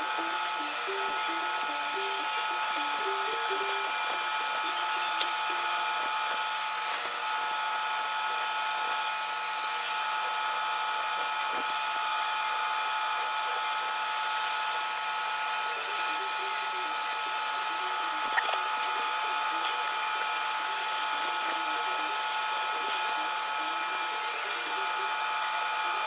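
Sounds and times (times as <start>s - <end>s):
electric machine whining: 0.0s - 26.0s.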